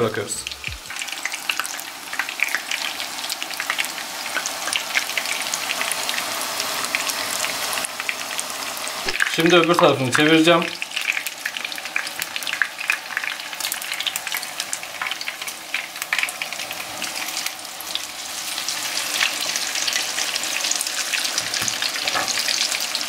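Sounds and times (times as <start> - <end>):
eggplant strips frying in oil: 0.0 - 23.0.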